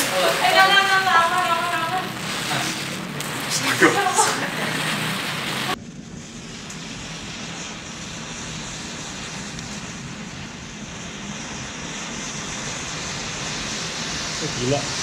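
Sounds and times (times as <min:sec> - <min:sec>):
rushing flame of burning matches: 0:00.0 - 0:15.0.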